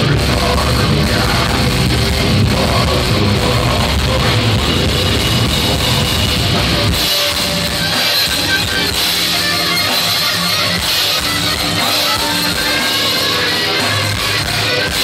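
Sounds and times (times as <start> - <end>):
heavy rock band playing: 0.0 - 15.0
sustained electric guitar: 0.0 - 15.0.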